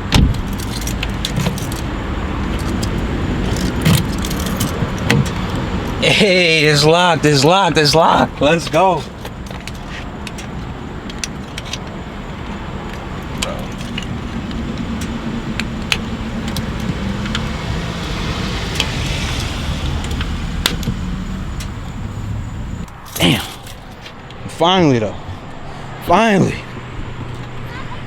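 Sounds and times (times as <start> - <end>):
motor vehicle hum: 0.0 - 28.0.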